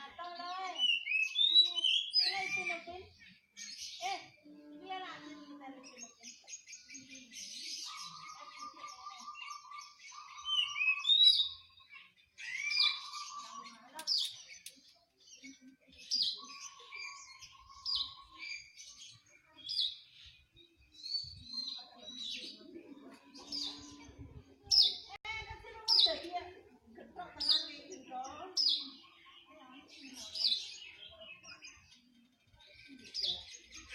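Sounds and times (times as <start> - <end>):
songbirds chirping and whistling: 0.0 - 33.9.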